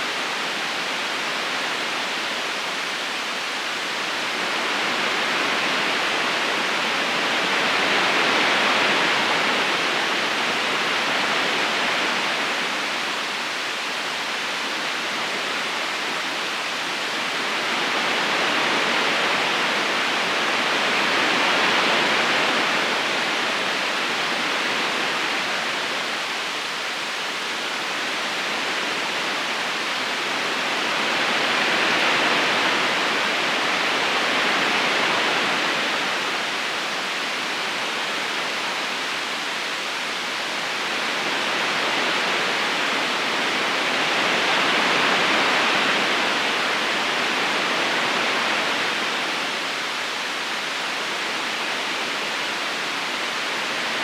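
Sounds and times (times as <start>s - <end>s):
river water rushing over stones: 0.1s - 54.0s.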